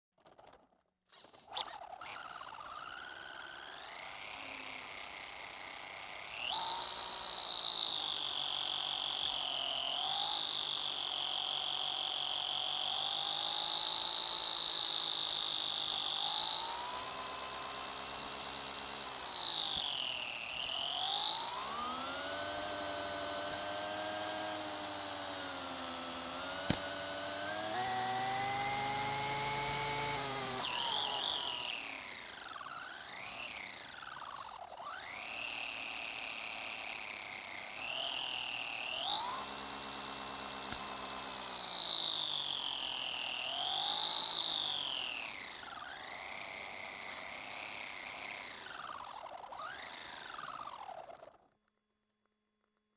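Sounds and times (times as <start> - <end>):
rc car motor whining: 0.2 - 51.6.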